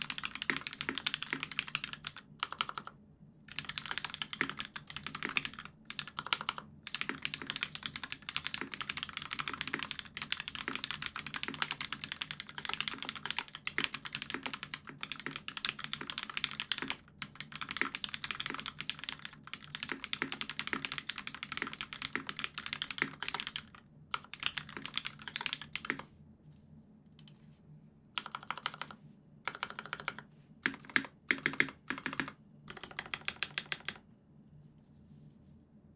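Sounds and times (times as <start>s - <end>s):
mechanical keyboard typing: 0.0s - 26.1s, 28.2s - 34.0s.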